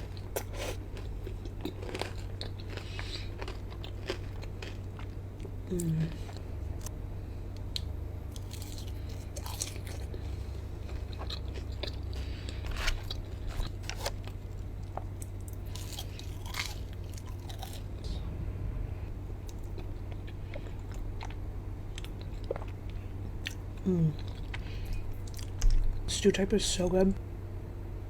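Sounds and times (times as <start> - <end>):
person chewing crunchy food: 0.0 - 6.9, 7.7 - 18.1, 19.4 - 26.0
low hum: 0.0 - 28.0.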